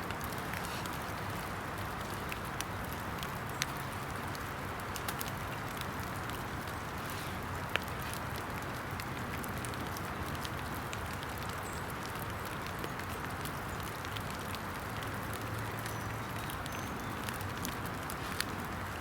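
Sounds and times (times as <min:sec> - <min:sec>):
rain hissing in woods: 0:00.0 - 0:19.0
raindrops ticking nearby: 0:00.0 - 0:19.0.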